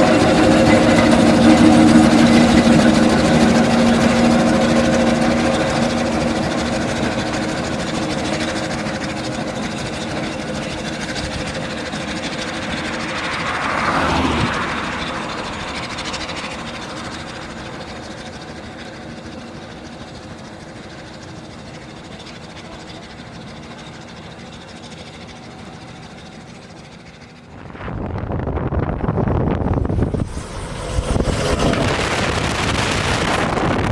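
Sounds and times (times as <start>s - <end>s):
steam road roller working: 0.0s - 33.9s.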